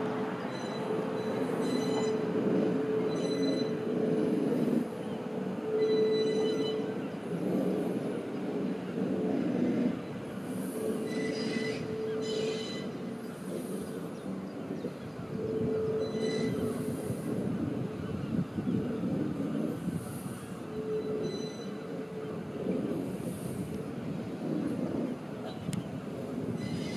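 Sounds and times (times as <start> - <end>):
wheel squeals: 0.0 - 18.1, 19.0 - 26.9
electric train passing: 0.0 - 26.9
humming drive tone: 0.0 - 26.9.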